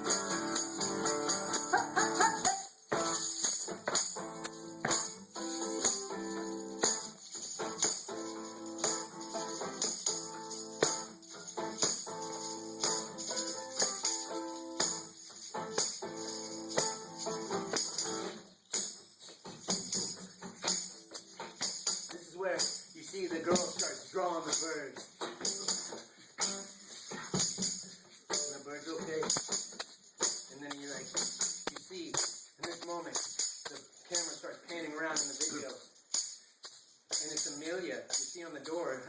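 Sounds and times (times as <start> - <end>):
jingling percussion: 0.0 - 39.0.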